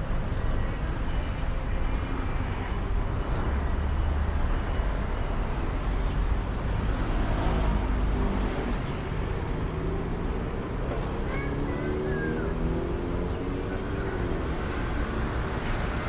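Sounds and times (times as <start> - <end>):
passing cars: 0.0 - 16.0.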